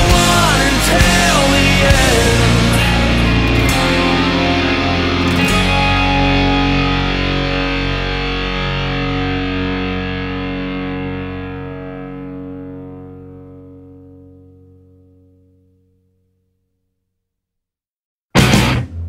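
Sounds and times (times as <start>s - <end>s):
rock music with distorted guitar: 0.0s - 14.7s, 18.4s - 19.0s.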